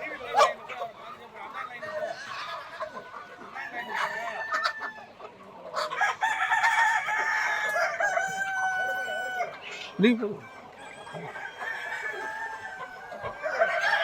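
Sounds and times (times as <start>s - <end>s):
chickens clucking: 0.0s - 14.0s
roosters crowing: 0.0s - 14.0s.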